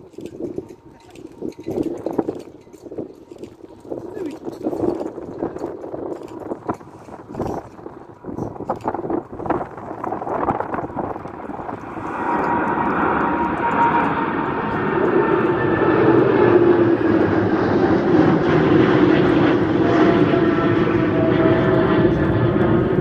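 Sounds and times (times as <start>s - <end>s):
jet engines roaring overhead: 0.0s - 23.0s.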